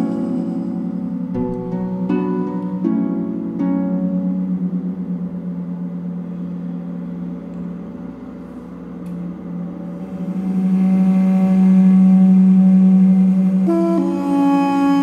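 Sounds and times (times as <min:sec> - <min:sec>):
meditation music drone: 0:00.0 - 0:15.0.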